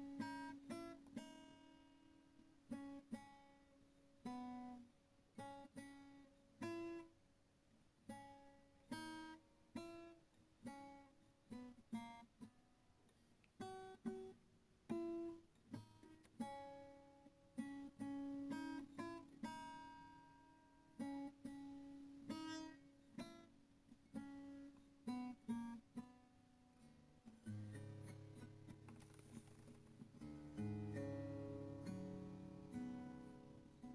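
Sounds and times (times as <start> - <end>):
acoustic guitar plucking slowly: 0.0 - 7.2, 8.0 - 33.9.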